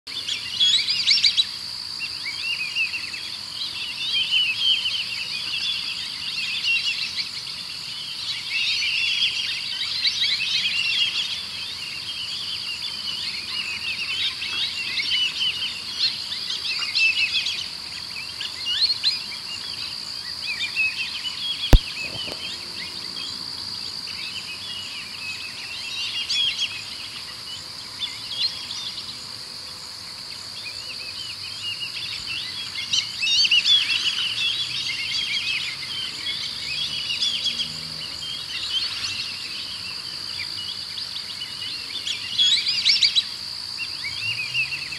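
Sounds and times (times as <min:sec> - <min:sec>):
high-pitched insect trill: 0:00.1 - 0:44.9
small songbirds chirping: 0:00.1 - 0:44.9.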